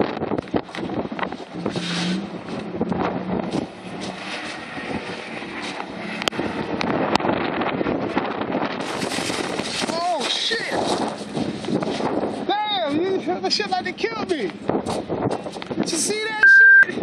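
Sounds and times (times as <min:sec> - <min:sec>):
wind roaring over microphone: 0:00.0 - 0:17.0.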